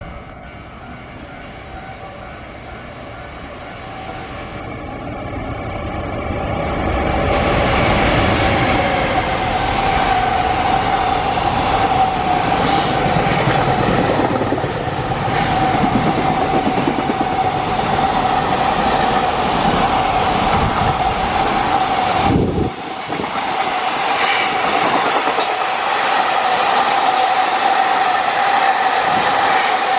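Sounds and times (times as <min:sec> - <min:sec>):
low train rumble: 0:00.0 - 0:29.9.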